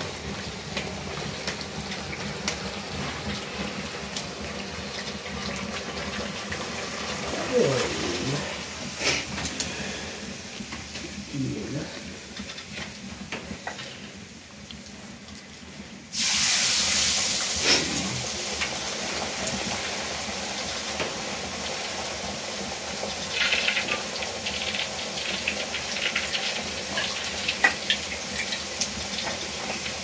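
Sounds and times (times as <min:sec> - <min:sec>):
dough sizzling in hot oil: 0:00.0 - 0:30.0
oil popping and crackling: 0:00.0 - 0:30.0.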